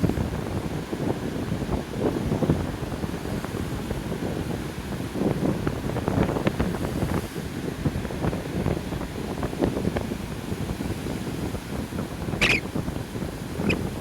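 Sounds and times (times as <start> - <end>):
sea surf: 0.0 - 14.0
wind buffeting microphone: 0.0 - 14.0.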